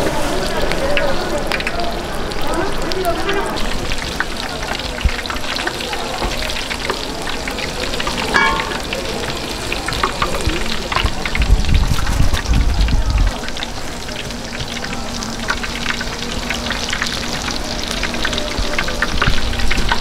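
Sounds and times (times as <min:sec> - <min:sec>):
food frying in hot oil: 0:00.0 - 0:20.0.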